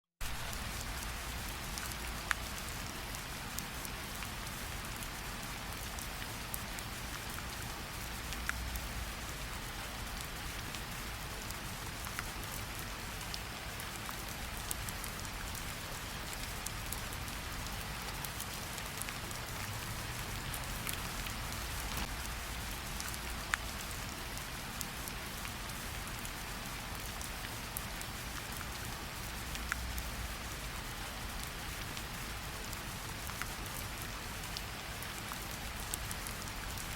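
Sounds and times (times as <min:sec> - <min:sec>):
steady rain hiss: 0:00.2 - 0:36.9.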